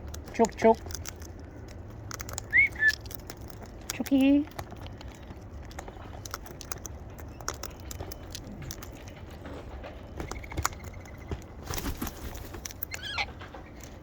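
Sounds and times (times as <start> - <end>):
beaks tapping on seed: 0.0 - 14.0
low background rumble: 0.0 - 14.0.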